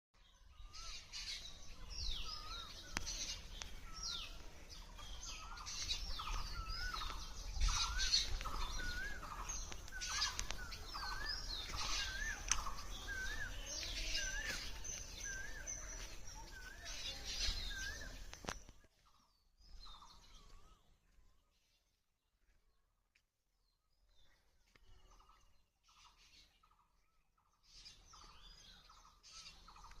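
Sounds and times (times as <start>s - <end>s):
wild birds chirping and whistling: 0.2s - 21.8s, 24.1s - 30.0s.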